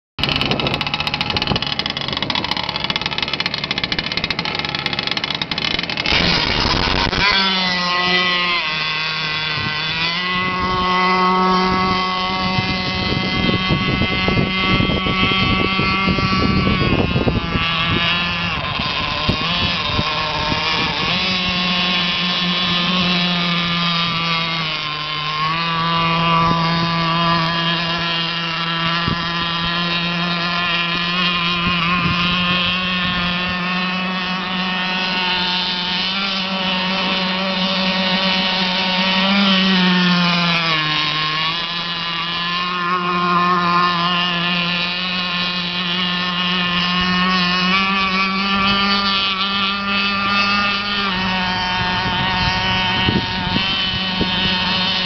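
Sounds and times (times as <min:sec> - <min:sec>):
model boat engine whining: 0:00.2 - 0:55.0.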